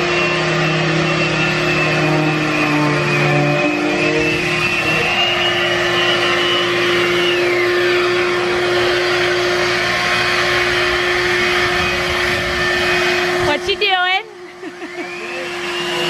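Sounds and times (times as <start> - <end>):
high whine: 0.0 - 16.0
orbital sander running: 0.0 - 16.0
shop vacuum running: 0.0 - 16.0.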